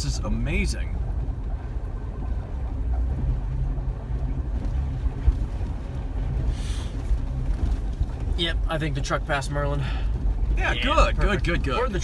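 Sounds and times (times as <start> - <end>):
engine and tyres rumbling: 0.0 - 12.0.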